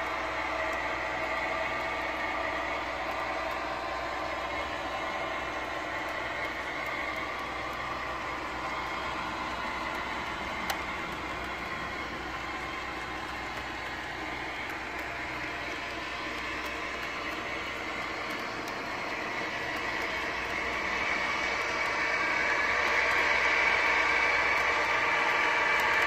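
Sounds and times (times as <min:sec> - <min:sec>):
model train wheels running: 0:00.0 - 0:26.0.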